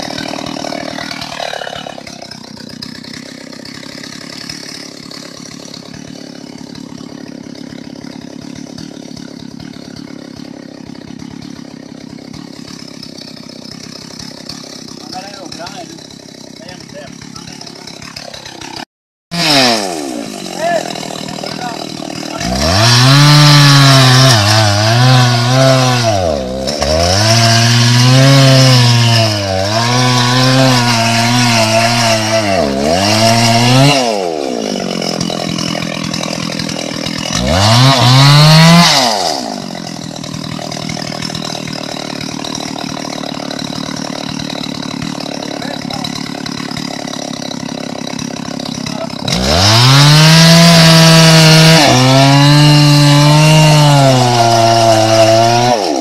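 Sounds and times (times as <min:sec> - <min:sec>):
chainsaw cutting wood: 0:00.0 - 0:56.0
chainsaw idling and revving: 0:00.0 - 0:56.0.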